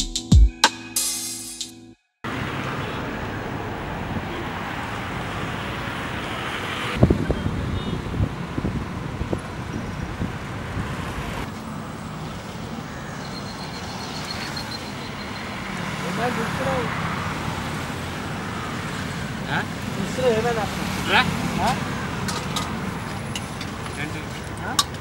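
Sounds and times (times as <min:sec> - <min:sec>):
passing cars and motorbikes: 0:02.3 - 0:25.0.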